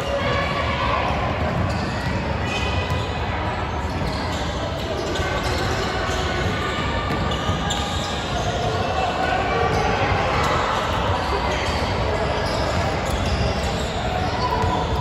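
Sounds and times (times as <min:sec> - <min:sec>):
indistinct chatter of voices: 0:00.0 - 0:15.0.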